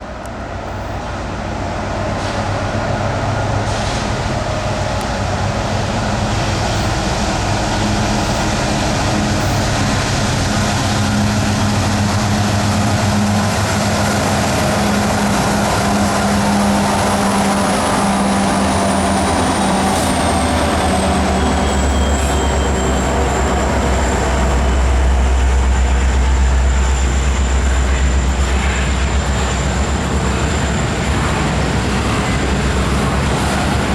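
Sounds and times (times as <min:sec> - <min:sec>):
diesel train approaching: 0:00.0 - 0:33.9.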